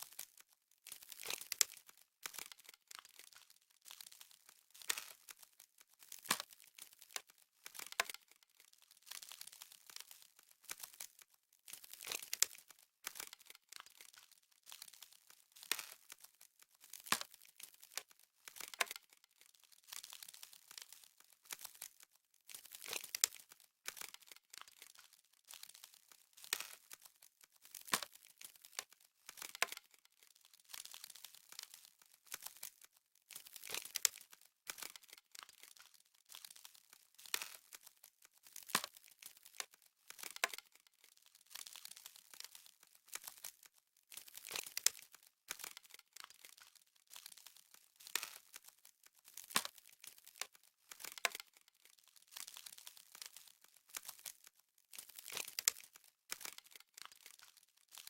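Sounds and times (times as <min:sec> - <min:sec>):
frost crackling and crunching: 0:00.0 - 0:58.0.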